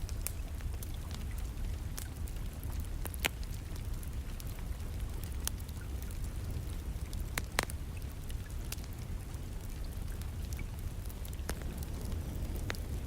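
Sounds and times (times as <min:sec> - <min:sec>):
rain pattering: 0:00.0 - 0:13.0
wood fire crackling and popping: 0:00.0 - 0:13.0.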